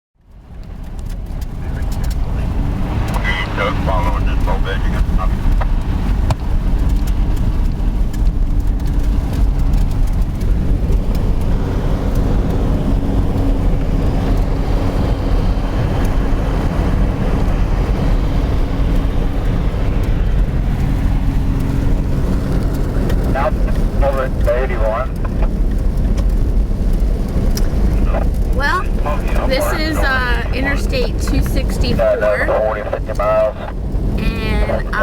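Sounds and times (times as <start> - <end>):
engine and tyres rumbling: 0.2 - 35.0.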